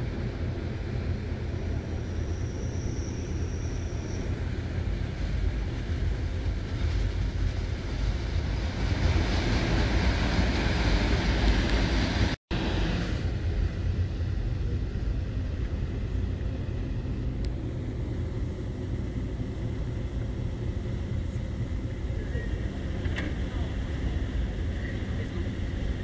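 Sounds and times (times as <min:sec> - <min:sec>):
rushing air: 0:00.0 - 0:26.0
train carriage rumbling on track: 0:00.0 - 0:26.0.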